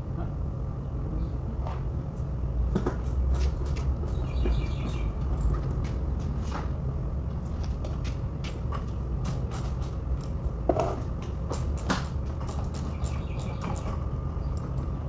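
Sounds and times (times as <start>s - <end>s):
low workshop rumble: 0.0s - 15.0s.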